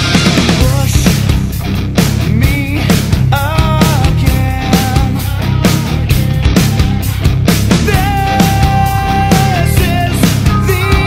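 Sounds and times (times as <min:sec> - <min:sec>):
heavy rock music: 0:00.0 - 0:11.0.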